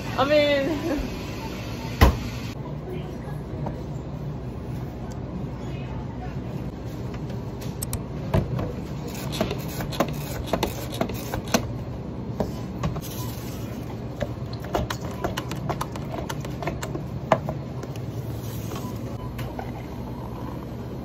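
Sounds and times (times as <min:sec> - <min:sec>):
cafe equipment hum: 0:00.0 - 0:21.0.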